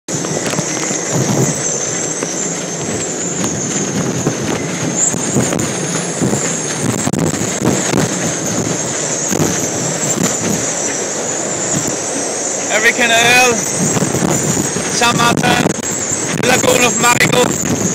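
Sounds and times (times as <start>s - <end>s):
high wavering wind whistle: 0.1s - 17.9s
strong wind buffeting microphone: 0.1s - 17.9s.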